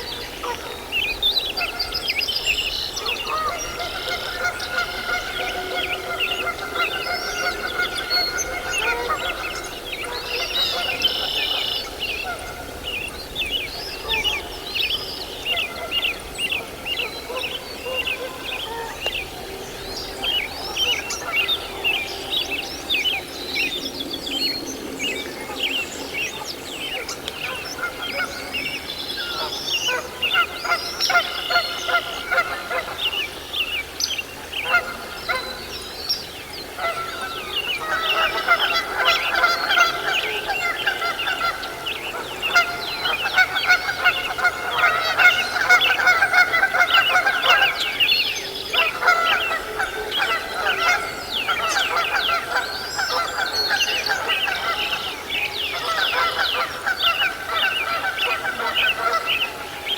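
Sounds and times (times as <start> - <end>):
birds honking: 0.0 - 59.9.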